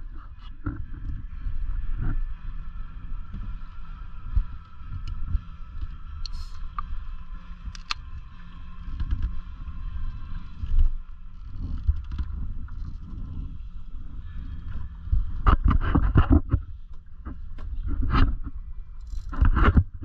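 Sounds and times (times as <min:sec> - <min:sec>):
water lapping at a hull: 0:00.0 - 0:20.0
wind on microphone: 0:00.0 - 0:20.0.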